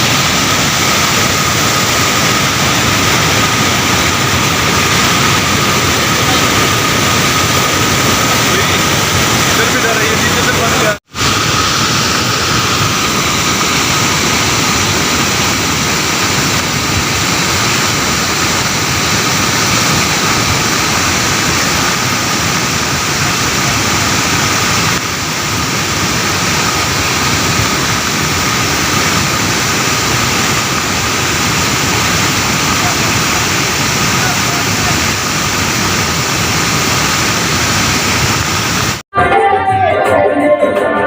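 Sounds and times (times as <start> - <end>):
rushing vehicle and road noise: 0.0 - 39.0.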